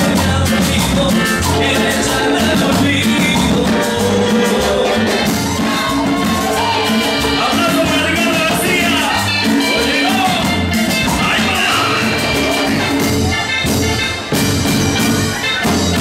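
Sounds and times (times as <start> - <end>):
loud latin dance music: 0.0 - 16.0.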